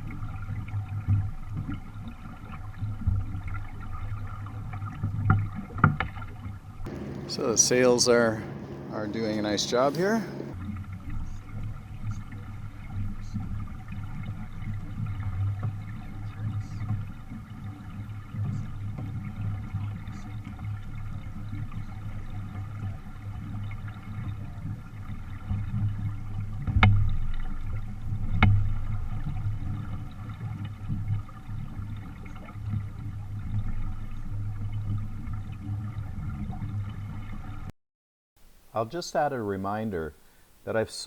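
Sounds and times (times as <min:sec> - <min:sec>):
water rushing along hull: 0:00.0 - 0:37.7.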